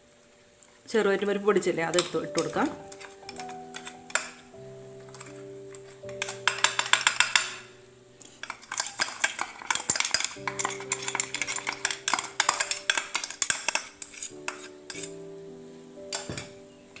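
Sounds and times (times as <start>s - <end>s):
spoon stirring and scraping in a pan: 0.4s - 17.0s.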